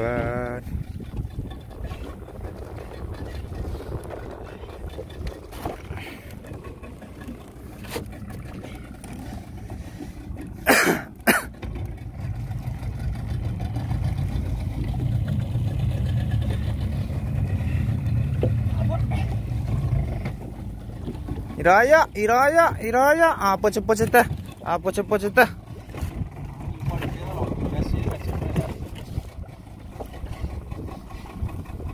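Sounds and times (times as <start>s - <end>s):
outboard motor running: 0.0s - 31.9s.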